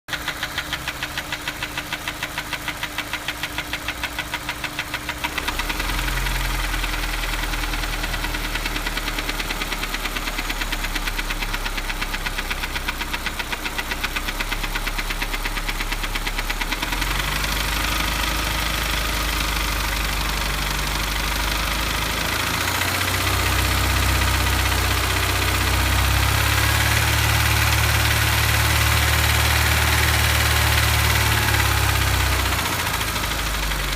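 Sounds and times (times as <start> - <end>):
car engine running: 0.1 - 33.9
rhythmic engine tapping: 0.1 - 33.9.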